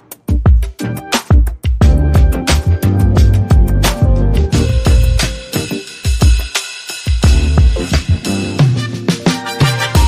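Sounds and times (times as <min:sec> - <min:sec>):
music with drum beat and bass: 0:00.0 - 0:10.0.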